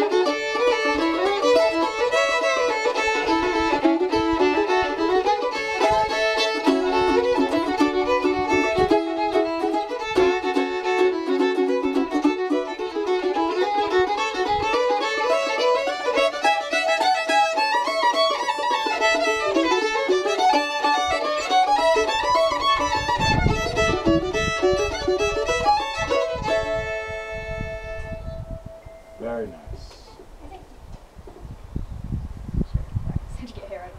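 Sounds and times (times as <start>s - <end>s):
mandolin picked chords: 0.0s - 29.7s
fiddle playing melody: 0.0s - 30.9s.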